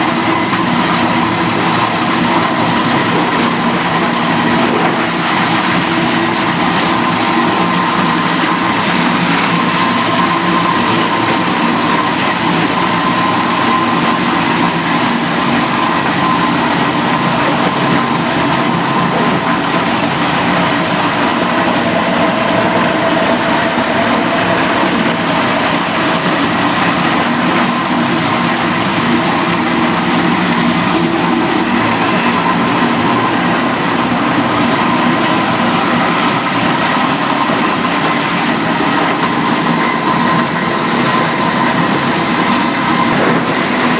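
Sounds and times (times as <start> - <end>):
machinery mechanical din: 0.0 - 43.9
motor hums and whines: 0.0 - 43.9.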